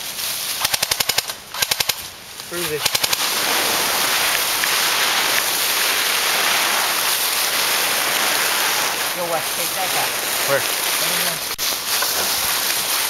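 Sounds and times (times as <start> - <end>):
loud steady hiss: 0.0 - 13.0.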